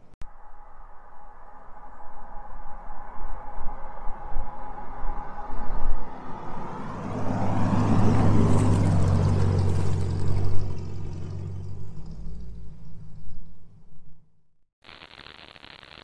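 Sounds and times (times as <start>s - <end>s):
car engine driving past: 1.2s - 14.3s.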